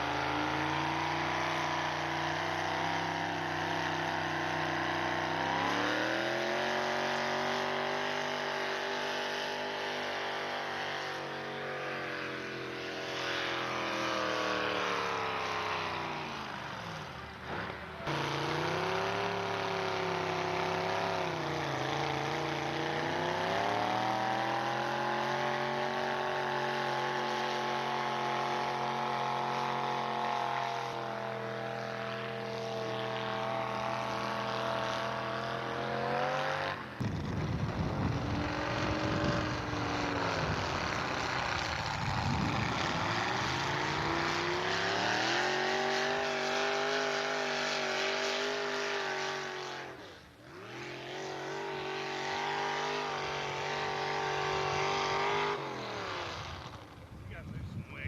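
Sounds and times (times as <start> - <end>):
truck engine at high revs under load: 0.0 - 58.0.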